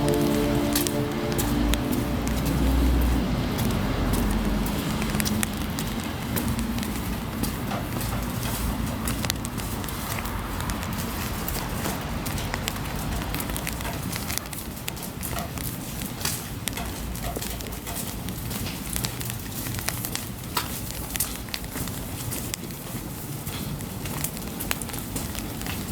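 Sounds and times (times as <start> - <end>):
rain on street: 0.0 - 25.9
sharp taps of raindrops: 0.0 - 25.9.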